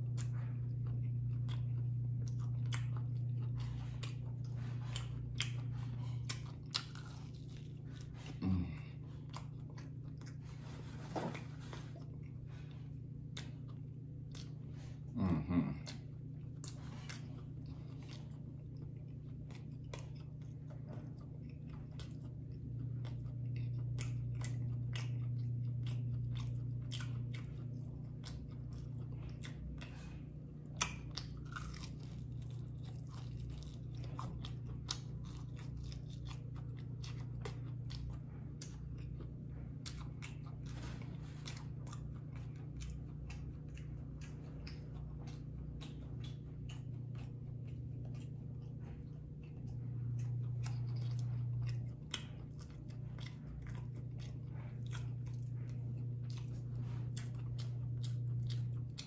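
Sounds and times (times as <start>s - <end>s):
crunching fried chicken: 0.0s - 59.0s
low steady hum: 0.0s - 59.0s.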